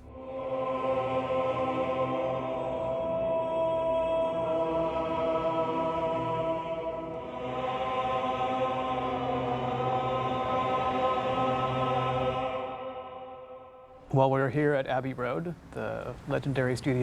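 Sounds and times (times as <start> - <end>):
choir holding sustained chords: 0.0 - 14.4.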